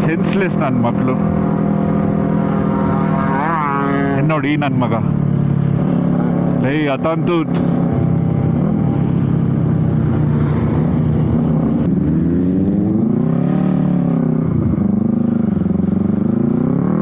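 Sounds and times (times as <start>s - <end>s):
motorcycle engine revving: 0.0s - 17.0s
wind and road noise: 0.0s - 17.0s.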